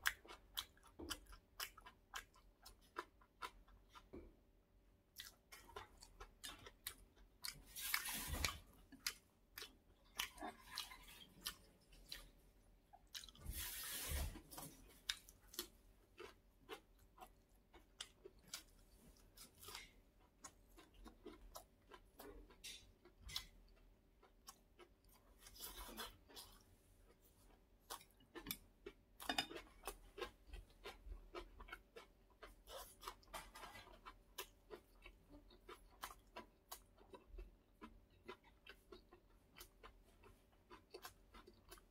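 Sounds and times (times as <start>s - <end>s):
chewing with mouth clicks: 0.0s - 4.4s, 5.1s - 13.7s, 14.3s - 41.9s.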